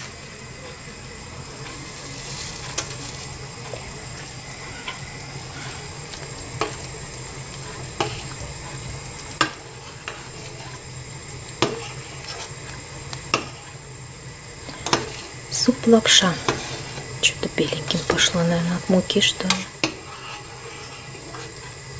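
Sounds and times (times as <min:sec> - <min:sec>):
hot broth hissing: 0:00.0 - 0:21.9.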